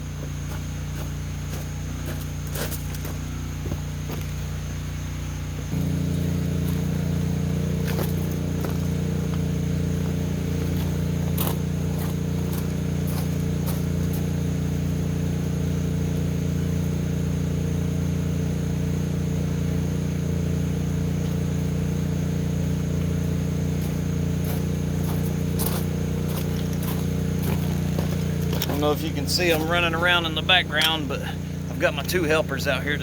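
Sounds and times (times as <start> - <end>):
motor humming: 0.0 - 33.0.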